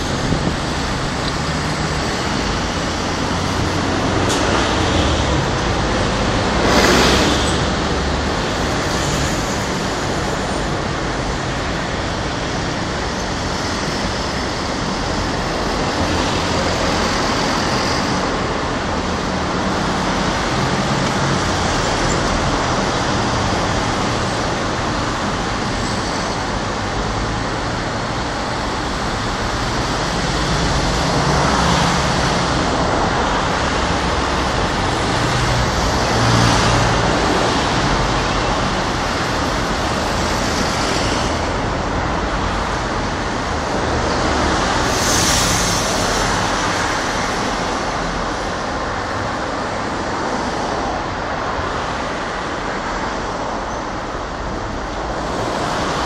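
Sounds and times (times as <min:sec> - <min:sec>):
road traffic: 0:00.0 - 0:56.0
vehicles passing close: 0:00.0 - 0:56.0.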